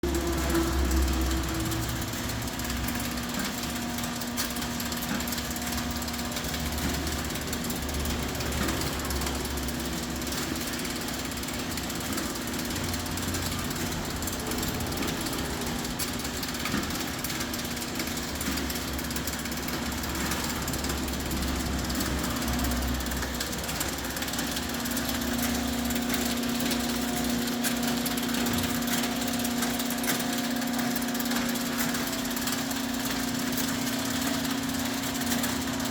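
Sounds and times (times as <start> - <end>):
conveyor mechanical clatter: 0.0 - 35.9
machine motor hum: 0.0 - 35.9.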